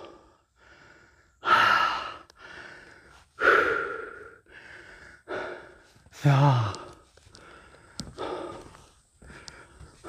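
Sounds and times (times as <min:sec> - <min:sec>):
man breathing hard: 0:00.0 - 0:10.0.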